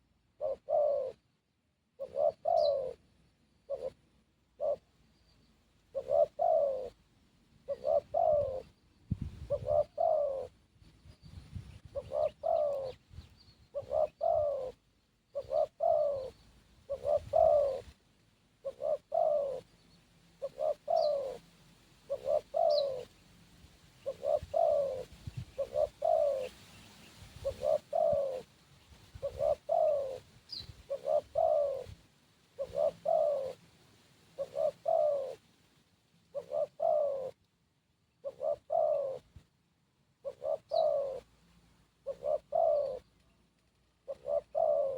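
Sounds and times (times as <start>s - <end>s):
dove cooing: 0.0s - 5.0s, 5.8s - 18.0s, 18.6s - 23.3s, 24.0s - 33.7s, 34.3s - 35.5s, 36.2s - 37.5s, 38.1s - 44.9s.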